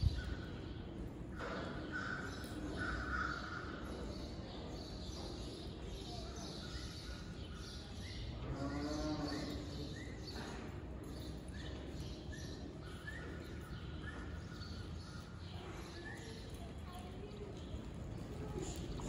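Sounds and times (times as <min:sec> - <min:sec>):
indoor arena ambience: 0:00.0 - 0:19.0.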